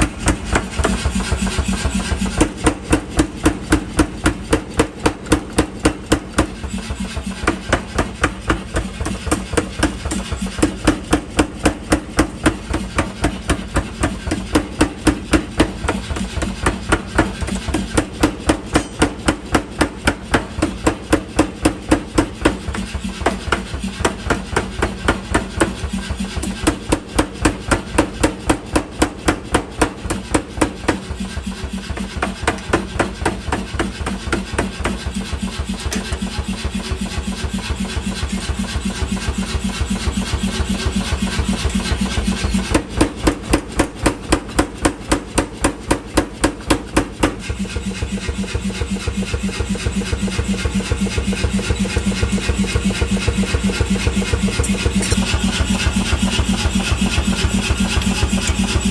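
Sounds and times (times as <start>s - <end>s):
hammer blows forging steel: 0.0s - 58.9s.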